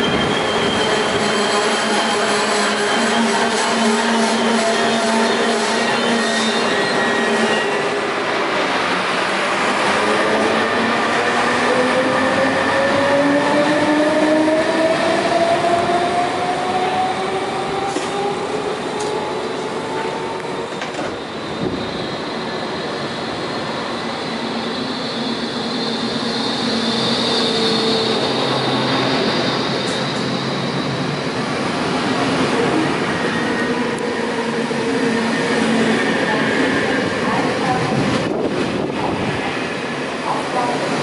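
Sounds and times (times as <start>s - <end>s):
high train squeal: 0.0s - 41.0s
train running along platform: 0.0s - 41.0s.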